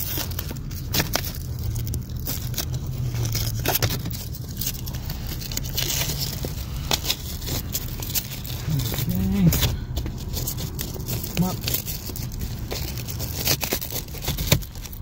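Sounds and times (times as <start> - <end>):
fabric rustling and scraping: 0.0 - 15.0.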